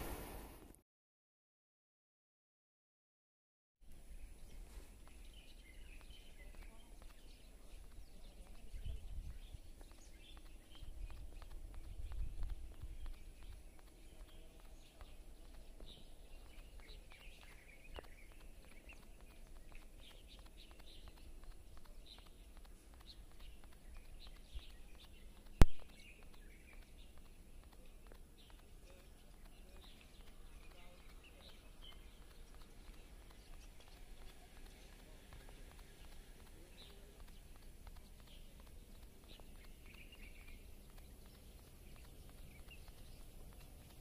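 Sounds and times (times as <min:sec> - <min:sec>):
outdoor background noise: 0:00.0 - 0:00.8, 0:03.8 - 0:44.0
small birds chirping: 0:03.8 - 0:44.0.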